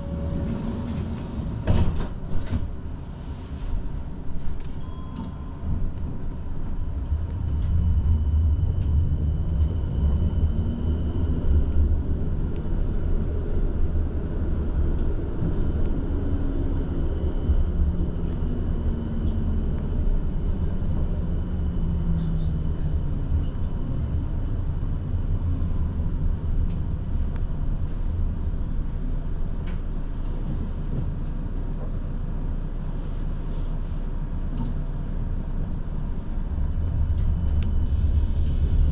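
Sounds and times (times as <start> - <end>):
tram wheels rumbling on rails: 0.0 - 32.2, 34.5 - 38.9.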